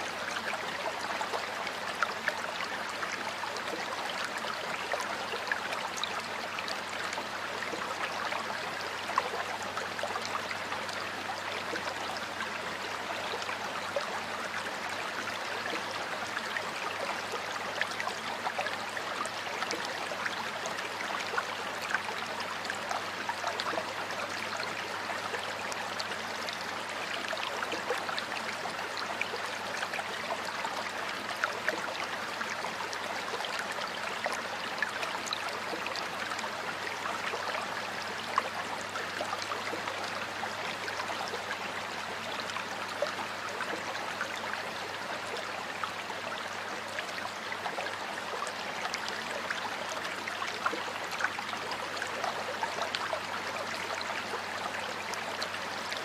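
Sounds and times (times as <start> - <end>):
stream water babbling: 0.0 - 56.0.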